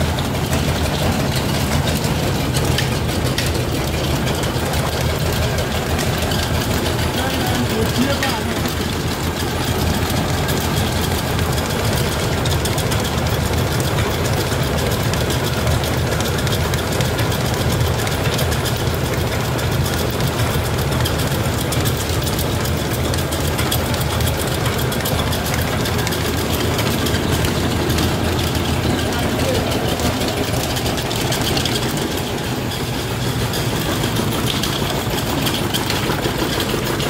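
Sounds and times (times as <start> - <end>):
diesel engine chugging: 0.0 - 37.0
rice mill rumbling: 0.0 - 37.0.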